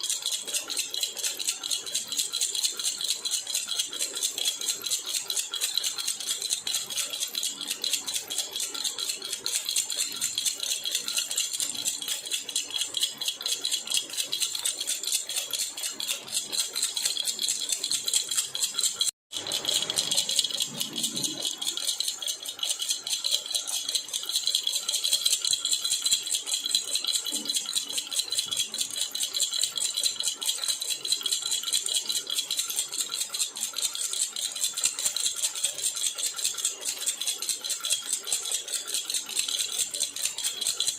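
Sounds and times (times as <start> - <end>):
metal baby rattle jingling: 0.0 - 40.9.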